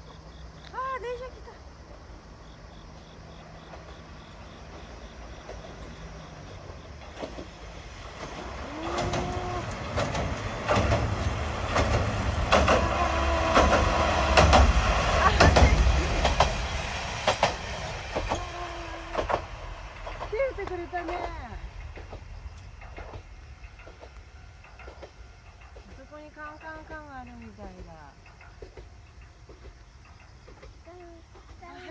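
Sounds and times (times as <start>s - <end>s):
diesel engine rumble: 0.0s - 28.9s
wheels clacking over rail joints: 0.0s - 31.9s.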